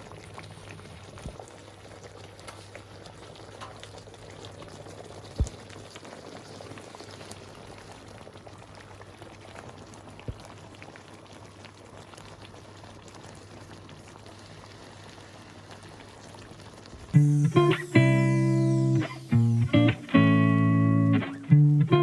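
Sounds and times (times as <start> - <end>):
stew bubbling in a pot: 0.0 - 22.0.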